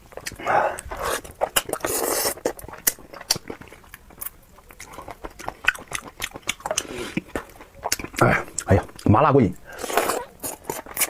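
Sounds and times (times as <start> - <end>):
person chewing with wet mouth smacks: 0.0 - 9.1, 9.7 - 11.0.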